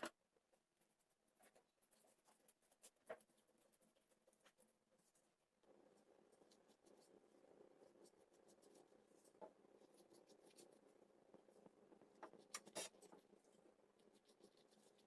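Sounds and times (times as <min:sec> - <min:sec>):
soft clicks and scratches: 0:00.0 - 0:15.0.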